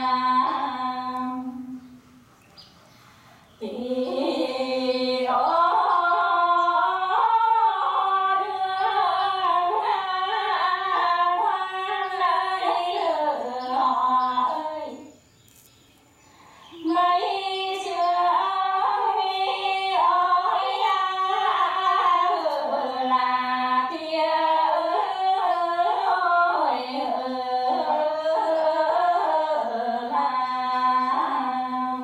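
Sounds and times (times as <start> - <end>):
two women singing: 0.0 - 1.9, 3.6 - 15.2, 16.7 - 32.0.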